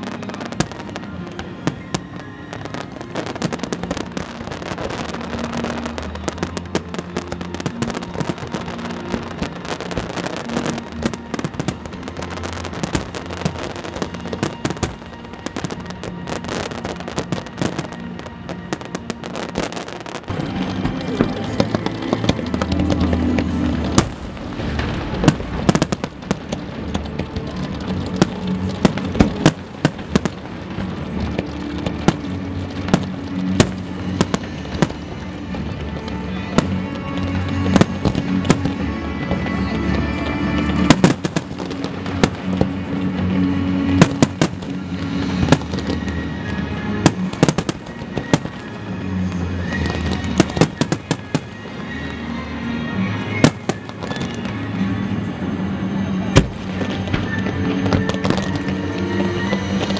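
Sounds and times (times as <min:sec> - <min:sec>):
fireworks bangs: 0:00.0 - 0:52.2, 0:53.0 - 0:59.9
music with long held notes: 0:00.0 - 0:59.9.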